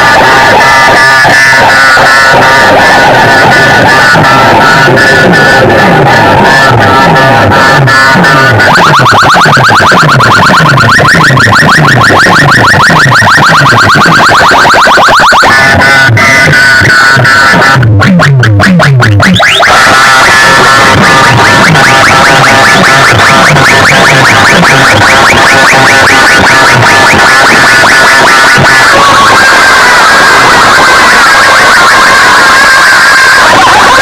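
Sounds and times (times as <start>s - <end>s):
chirping siren-like electronic tones: 0.0s - 34.0s.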